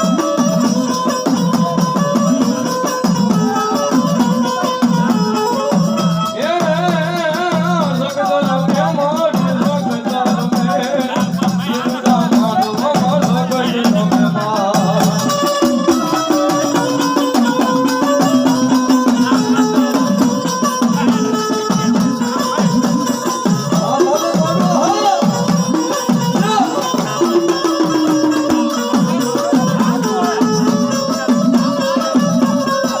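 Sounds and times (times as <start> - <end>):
folk devotional melody: 0.0 - 33.0
steady drum rhythm: 0.0 - 33.0.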